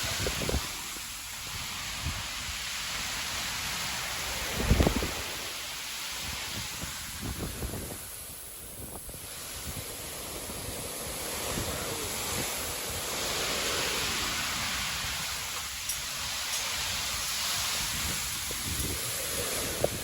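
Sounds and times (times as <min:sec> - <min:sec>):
heavy rain pouring: 0:00.0 - 0:20.0
wind rumbling on microphone: 0:00.0 - 0:20.0.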